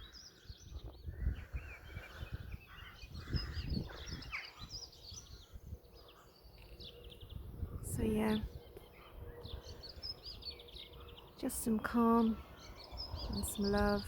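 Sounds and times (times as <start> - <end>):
birds chirping and trilling: 0.0 - 14.0.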